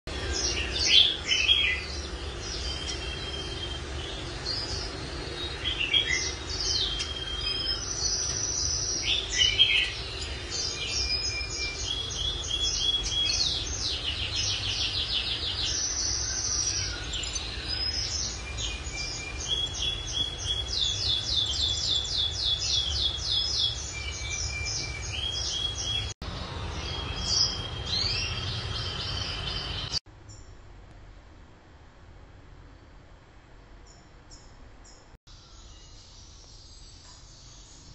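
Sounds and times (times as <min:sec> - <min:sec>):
finch singing: 0:00.1 - 0:30.5
low steady hum: 0:00.1 - 0:37.9.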